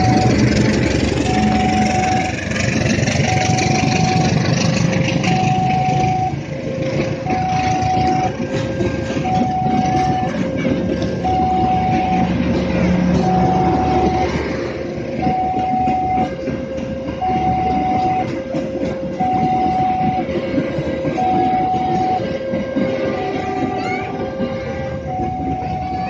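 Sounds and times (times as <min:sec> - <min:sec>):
level-crossing alarm two tones: 0:00.0 - 0:26.0
passing train rumble: 0:00.0 - 0:26.0.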